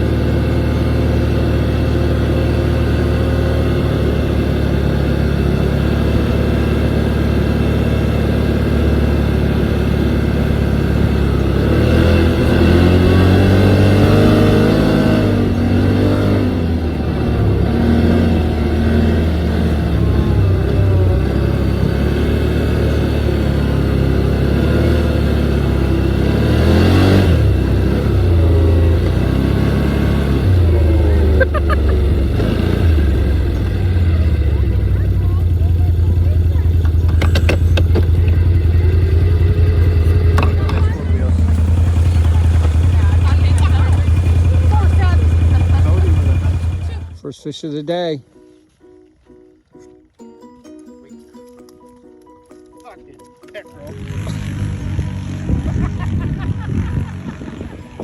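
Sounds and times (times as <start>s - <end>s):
engine running and revving: 0.0s - 47.2s, 53.8s - 58.0s.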